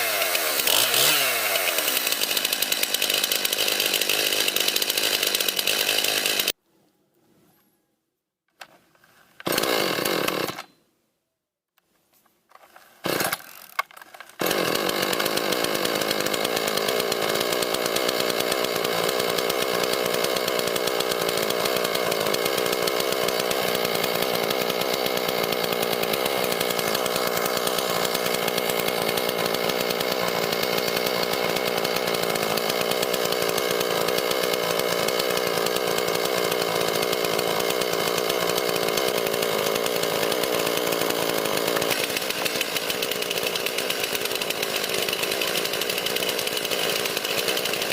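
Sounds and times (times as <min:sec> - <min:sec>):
chainsaw running: 0:00.0 - 0:06.6, 0:09.4 - 0:10.7, 0:12.8 - 0:47.9.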